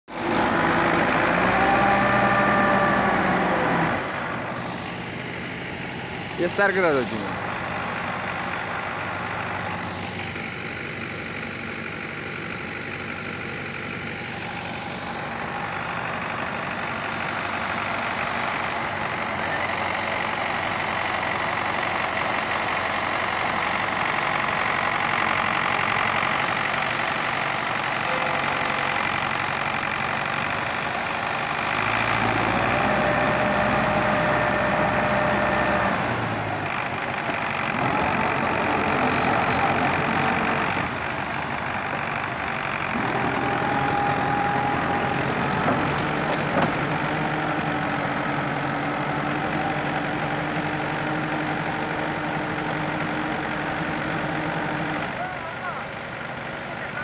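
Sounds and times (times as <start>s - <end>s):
tractor diesel engines running: 0.0s - 57.0s.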